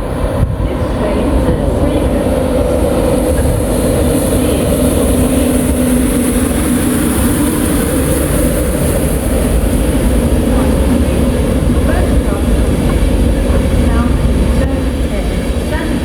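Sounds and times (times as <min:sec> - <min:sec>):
train engine droning: 0:00.0 - 0:16.0.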